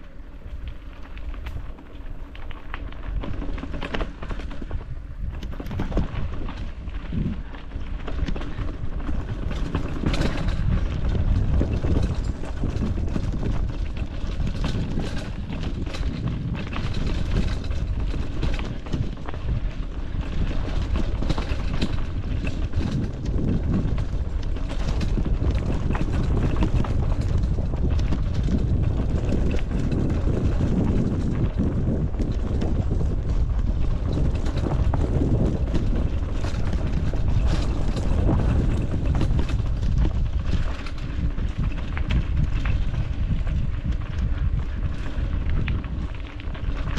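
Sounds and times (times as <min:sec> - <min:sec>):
bike frame rattling and knocking: 0:00.0 - 0:46.9
wind buffeting microphone: 0:00.0 - 0:46.9
tyres rumbling on dirt: 0:05.5 - 0:46.9.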